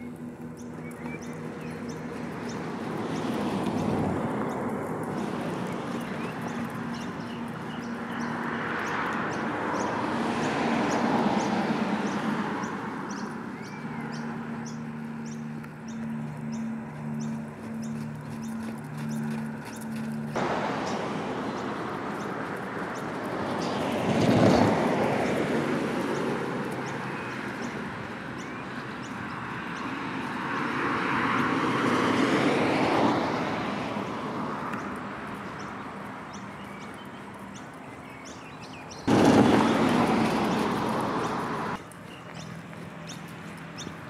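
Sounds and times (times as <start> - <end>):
cars passing on road: 0.0 - 44.0.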